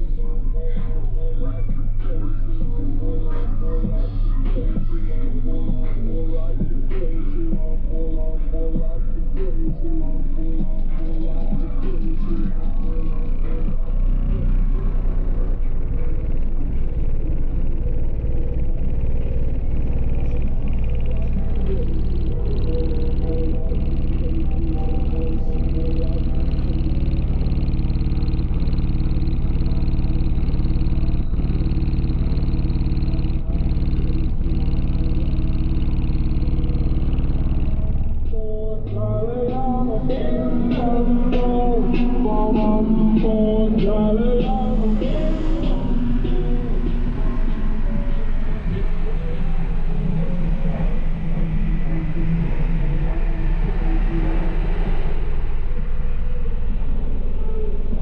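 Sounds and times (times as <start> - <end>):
distorted subwoofer bass: 0.0 - 58.0.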